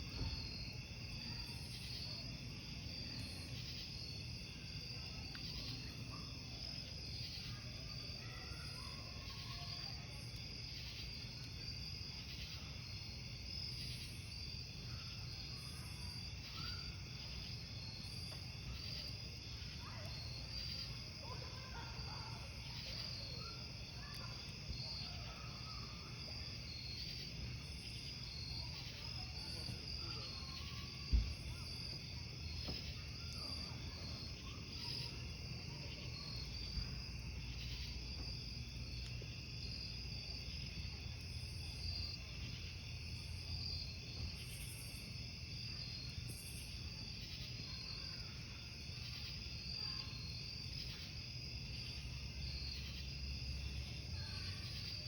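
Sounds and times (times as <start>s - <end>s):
campfire rumble: 0.0s - 55.0s
crickets chirping: 0.0s - 55.0s.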